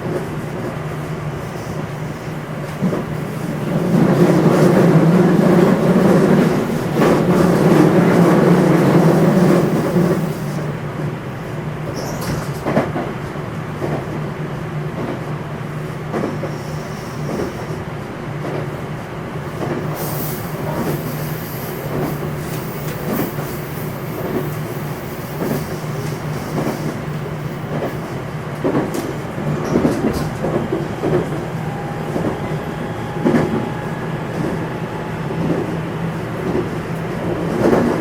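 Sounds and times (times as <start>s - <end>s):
train rolling noise: 0.0s - 38.0s
train running gear hum: 0.0s - 38.0s.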